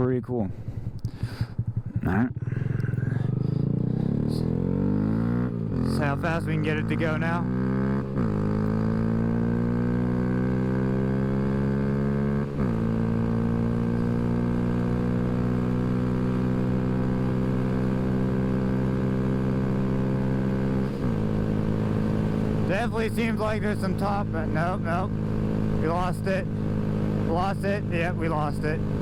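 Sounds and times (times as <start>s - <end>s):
motorcycle engine at full throttle: 0.4s - 29.0s.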